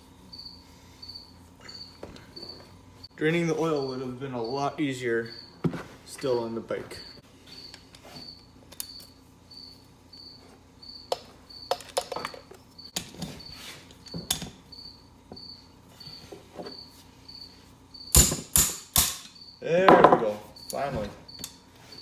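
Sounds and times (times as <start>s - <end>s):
cricket chirping: 0.0s - 2.7s, 3.7s - 5.6s, 6.4s - 19.9s, 20.5s - 22.0s.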